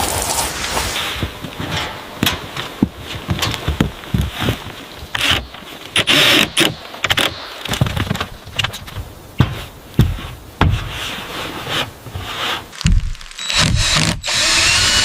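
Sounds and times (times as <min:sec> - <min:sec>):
knocks and scraping on wood: 0:00.0 - 0:14.2.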